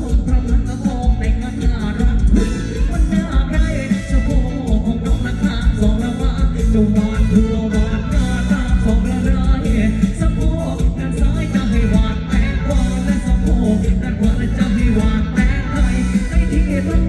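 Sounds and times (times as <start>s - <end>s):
live pop band through pa: 0.0s - 17.0s
man singing into microphone: 0.0s - 17.0s.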